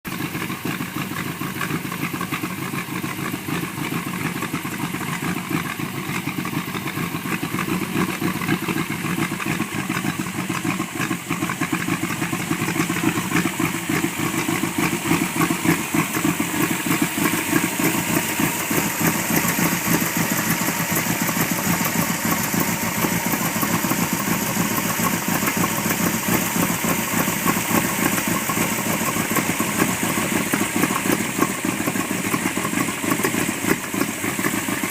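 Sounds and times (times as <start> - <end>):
truck engine idling: 0.1 - 34.9.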